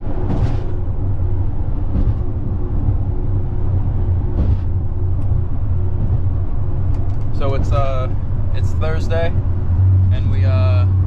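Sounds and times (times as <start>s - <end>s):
low rumble of vehicle driving: 0.0s - 11.0s.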